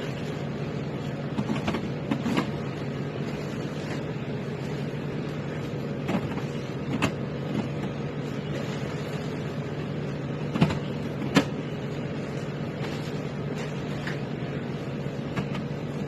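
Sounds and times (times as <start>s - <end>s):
vending machine hum: 0.0s - 16.0s.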